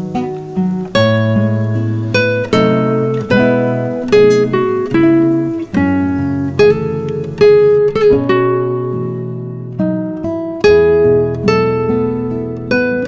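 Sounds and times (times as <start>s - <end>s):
plucked acoustic guitar: 0.0s - 13.0s.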